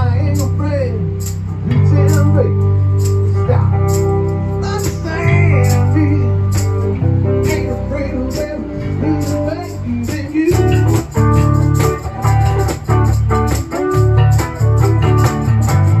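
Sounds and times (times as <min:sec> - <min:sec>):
band playing live: 0:00.0 - 0:16.0
electric bass: 0:00.0 - 0:16.0.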